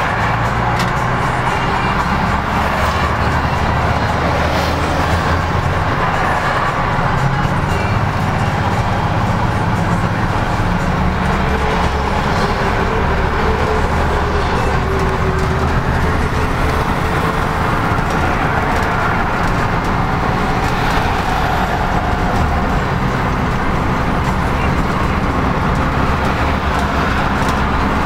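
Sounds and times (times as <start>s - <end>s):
bus engine drone: 0.0s - 28.0s
tyre and road noise: 0.0s - 28.0s.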